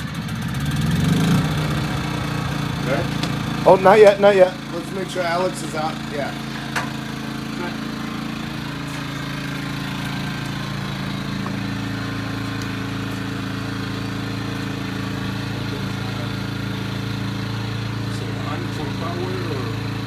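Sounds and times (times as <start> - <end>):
portable generator engine running: 0.0 - 20.0.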